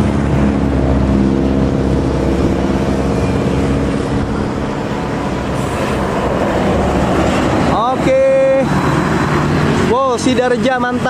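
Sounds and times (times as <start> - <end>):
coach bus engine and tyres: 0.0 - 11.0
motorcycle engine humming: 0.0 - 11.0.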